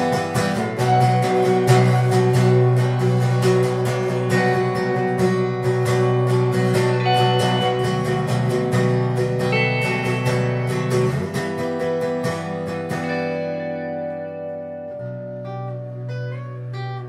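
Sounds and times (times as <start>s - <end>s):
guitar music strummed and picked: 0.0s - 17.0s.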